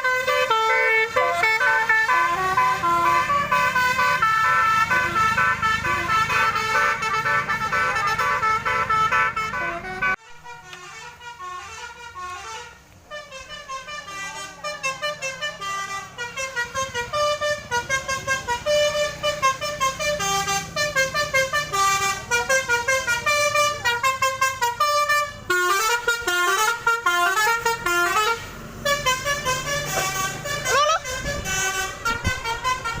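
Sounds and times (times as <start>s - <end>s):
bus horn playing melody: 0.0s - 33.0s.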